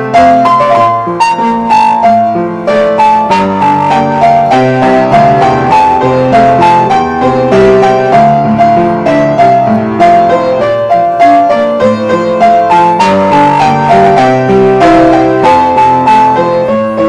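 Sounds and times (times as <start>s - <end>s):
acoustic piano ballad: 0.0s - 17.0s.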